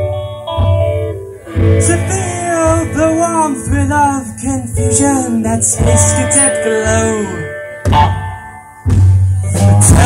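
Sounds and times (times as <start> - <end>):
bass guitar: 0.0 - 10.0
drum kit: 0.0 - 10.0
electric guitars: 0.0 - 10.0.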